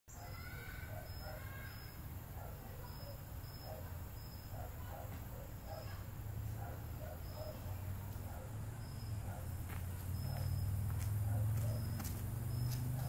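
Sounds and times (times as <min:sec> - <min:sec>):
insects chirping: 0:00.1 - 0:13.0.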